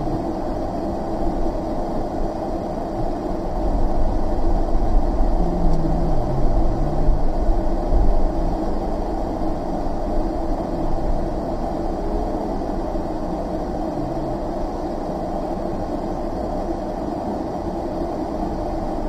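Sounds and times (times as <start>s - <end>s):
van engine rumbling: 0.0s - 1.7s, 2.7s - 19.0s.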